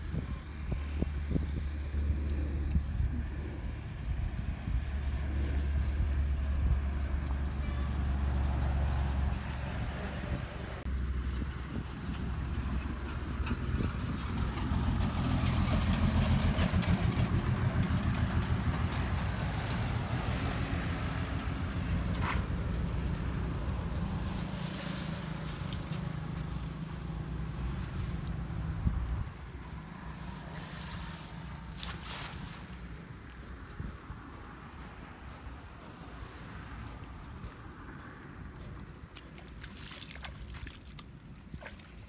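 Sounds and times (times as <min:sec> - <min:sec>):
vehicle engine rumble: 0:00.0 - 0:42.0.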